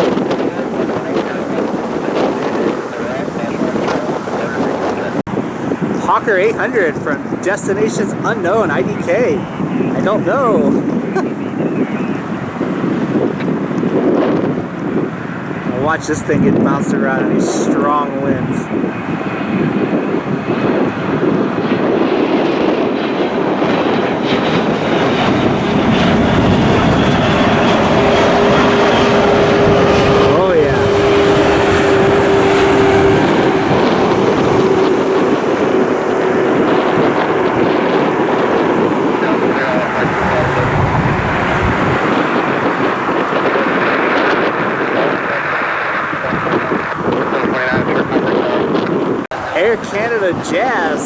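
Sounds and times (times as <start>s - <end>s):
jet engine roar: 0.0s - 51.0s
wind blowing across microphone: 0.0s - 51.0s.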